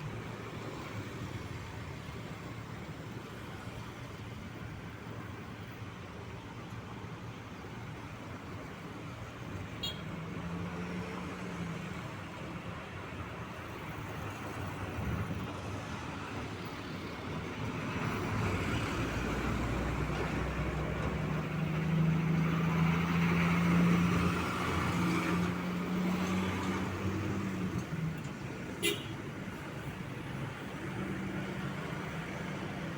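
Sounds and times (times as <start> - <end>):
tyre and road noise: 0.0 - 32.9.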